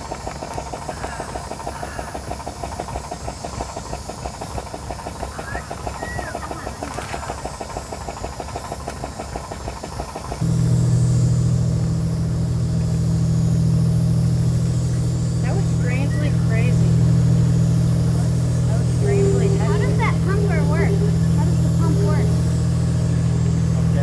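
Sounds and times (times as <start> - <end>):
low boat engine drone: 0.0 - 24.0
small pump engine running: 0.0 - 24.0.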